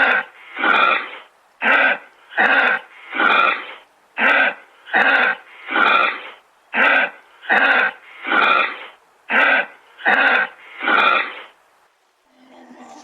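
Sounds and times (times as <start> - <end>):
kangaroo making raspy huffs: 0.0 - 11.5.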